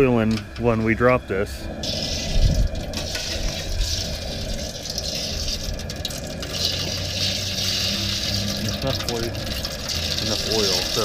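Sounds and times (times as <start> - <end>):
oil sizzling and bubbling: 0.0 - 11.0
propane burner roar: 0.0 - 11.0.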